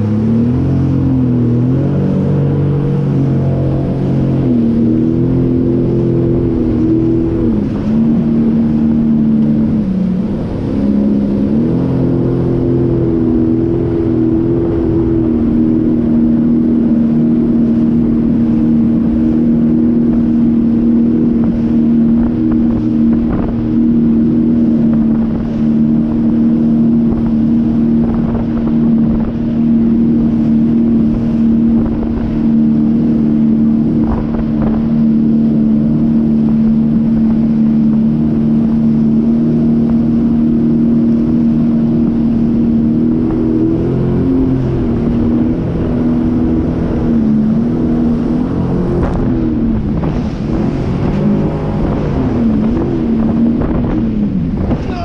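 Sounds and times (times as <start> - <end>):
personal watercraft engine: 0.0 - 55.0
wind buffeting microphone: 0.0 - 55.0.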